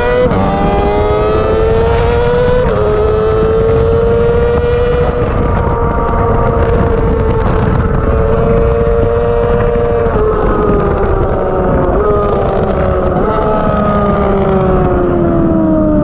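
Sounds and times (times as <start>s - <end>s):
engine upshifting: 0.0s - 16.0s
motorcycle engine at high revs: 0.0s - 16.0s
wind rush on microphone: 0.0s - 16.0s.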